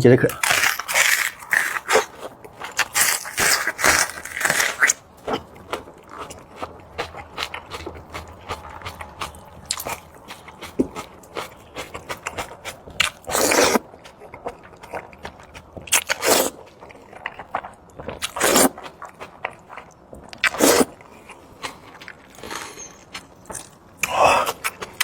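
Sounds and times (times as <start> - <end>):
person eating crunchy food: 0.3 - 25.0.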